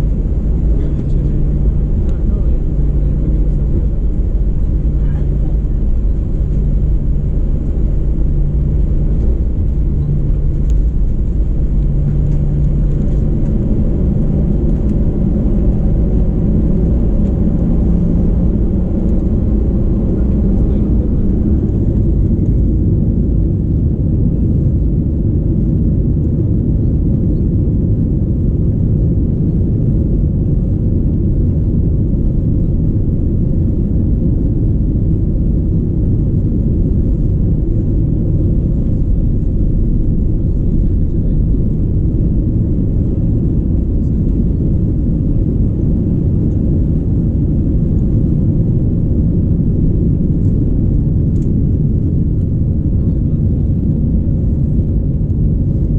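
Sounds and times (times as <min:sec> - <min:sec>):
airplane engine rumble in cabin: 0:00.0 - 0:55.9.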